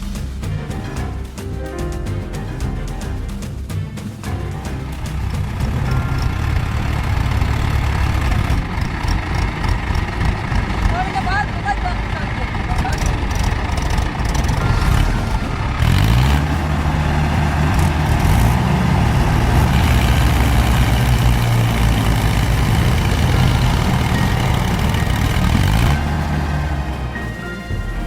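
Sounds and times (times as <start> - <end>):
heavy engine running loud: 4.9 - 27.8.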